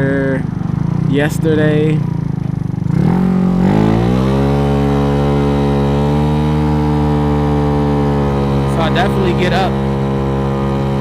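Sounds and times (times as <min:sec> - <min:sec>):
scooter engine accelerating: 0:00.0 - 0:11.0.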